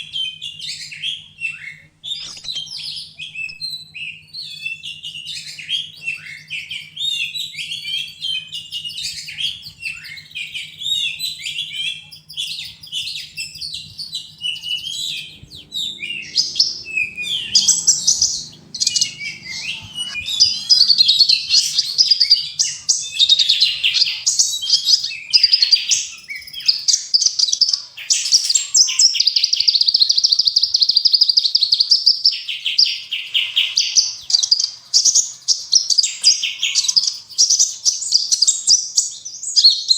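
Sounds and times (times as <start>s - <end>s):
fast rattling bird trill: 0.0s - 39.9s
songbirds chirping and trilling: 0.0s - 39.9s.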